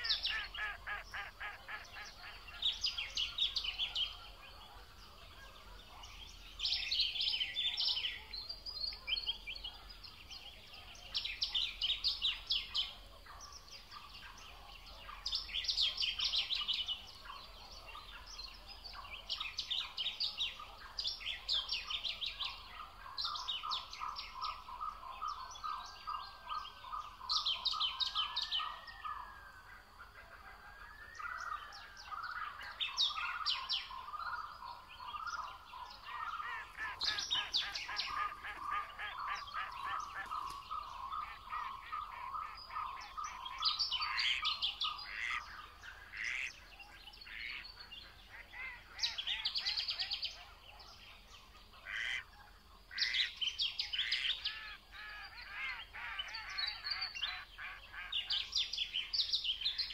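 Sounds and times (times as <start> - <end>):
birds singing and chirping: 0.0 - 59.9.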